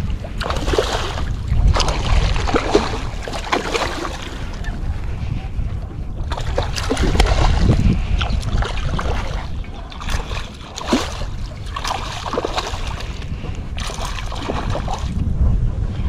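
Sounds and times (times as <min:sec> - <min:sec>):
wind rumbling on microphone: 0:00.0 - 0:16.0
fish splashing at water surface: 0:00.4 - 0:04.7, 0:06.3 - 0:15.2.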